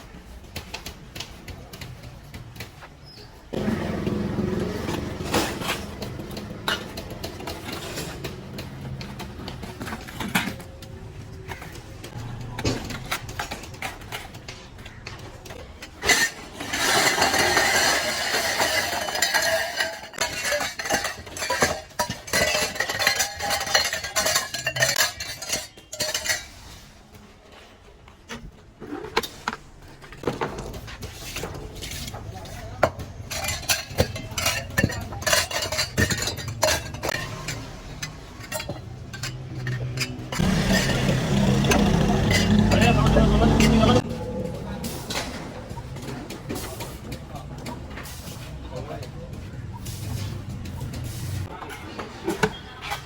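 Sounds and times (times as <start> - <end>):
dishes and utensils clattering: 3.5 - 27.0, 30.2 - 53.0.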